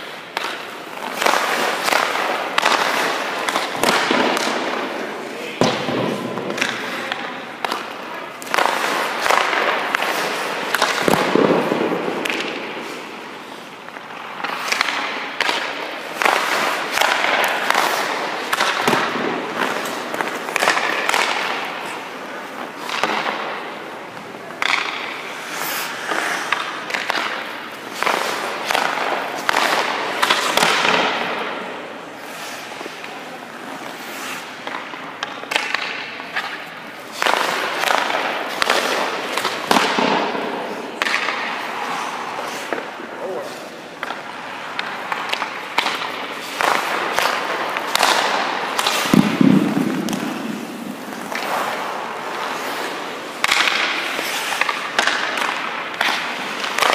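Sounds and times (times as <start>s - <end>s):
pucks striking pads: 0.0s - 56.9s
skate blades scraping on ice: 0.0s - 56.9s.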